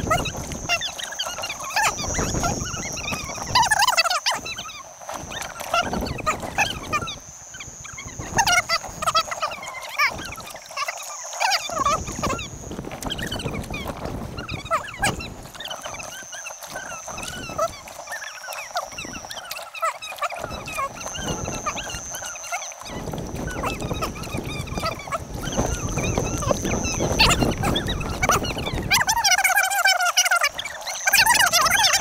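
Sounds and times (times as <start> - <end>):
faint high whine: 0.0 - 32.0
sped-up high chirps and clicks: 0.0 - 32.0.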